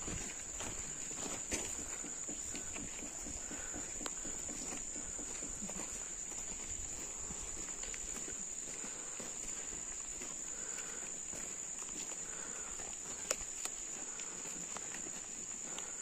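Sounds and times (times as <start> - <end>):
footsteps on dirt track: 0.0 - 16.0
insects droning: 0.0 - 16.0.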